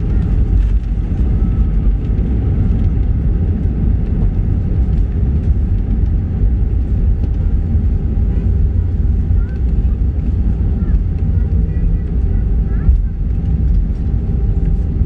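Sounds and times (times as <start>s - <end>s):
airplane cabin low rumble: 0.0s - 15.0s.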